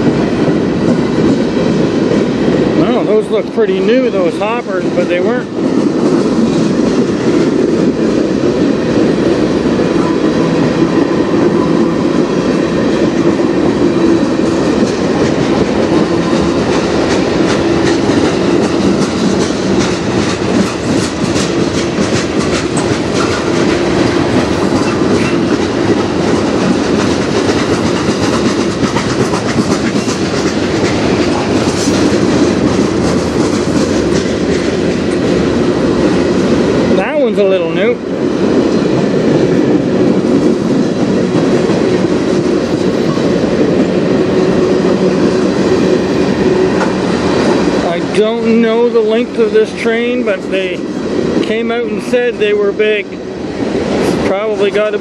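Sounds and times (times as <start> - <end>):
train wheels rumbling on rail: 0.0 - 55.0
wheels clicking over rail joints: 0.0 - 55.0.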